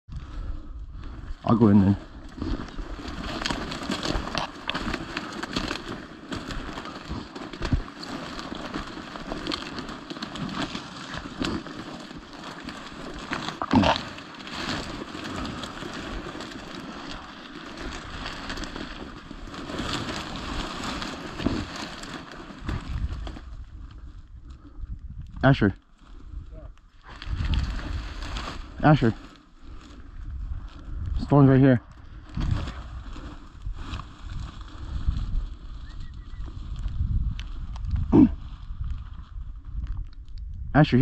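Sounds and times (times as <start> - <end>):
dry stalks rustling and crackling: 0.1 - 41.0.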